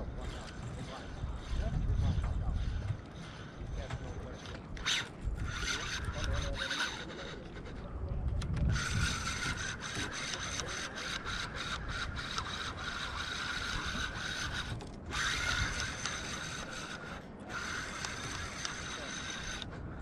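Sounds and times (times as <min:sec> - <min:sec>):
fishing reel gear whine: 0:00.0 - 0:20.0
reel clicks: 0:00.0 - 0:20.0.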